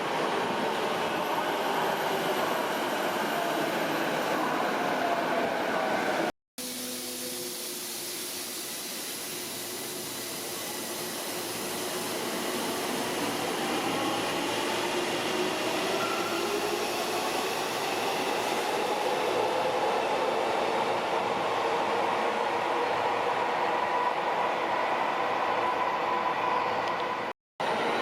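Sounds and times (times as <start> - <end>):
electric subway train running: 0.0 - 28.0.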